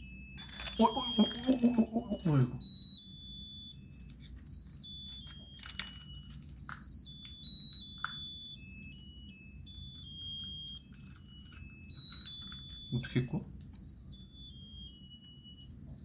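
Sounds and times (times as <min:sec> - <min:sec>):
tinny electronic beeping melody: 0:00.0 - 0:16.0.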